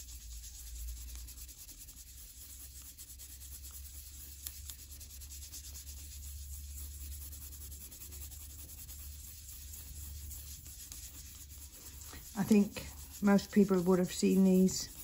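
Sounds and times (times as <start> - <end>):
dry brush rustling on paper: 0.0 - 15.0.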